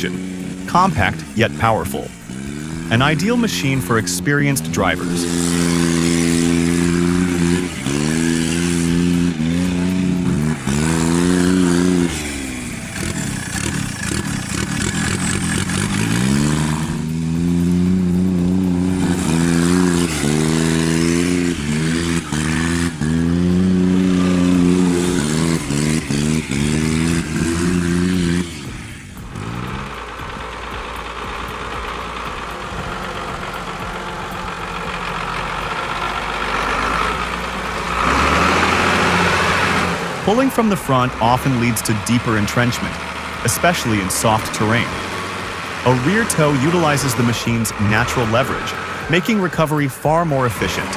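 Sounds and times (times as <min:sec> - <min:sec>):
small diesel engine revving: 0:00.0 - 0:50.9.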